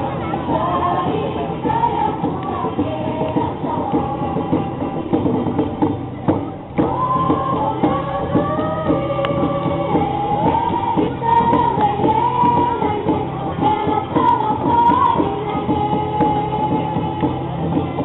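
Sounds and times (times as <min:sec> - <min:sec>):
rhythmic accompaniment: 0:00.0 - 0:18.0.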